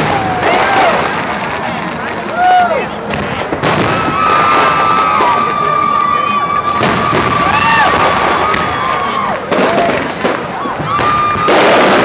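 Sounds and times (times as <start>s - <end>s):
firework bang: 0.0s - 5.6s, 6.6s - 12.0s
crowd cheering and shouting: 0.0s - 11.7s.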